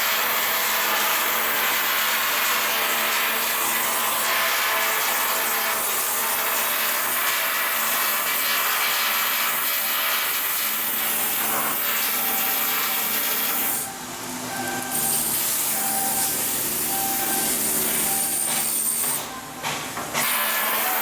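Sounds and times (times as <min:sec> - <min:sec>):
power tools on steel: 0:00.0 - 0:21.0.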